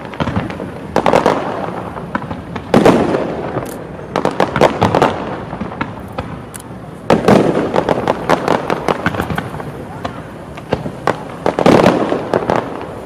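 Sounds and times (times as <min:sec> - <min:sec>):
fireworks rumbling and crackling: 0:00.0 - 0:13.0.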